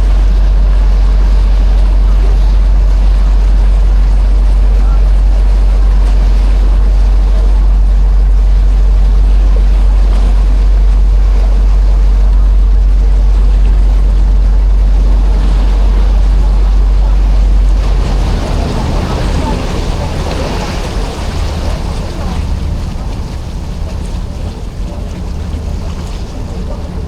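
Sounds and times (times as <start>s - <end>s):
ferry engine drone: 0.0s - 27.0s
wind: 0.0s - 27.0s.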